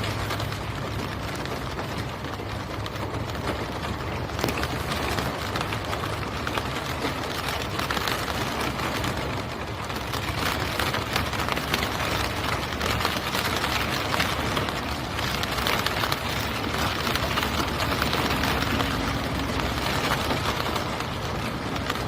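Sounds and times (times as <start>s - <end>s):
rain pattering on a car window: 0.0s - 22.0s.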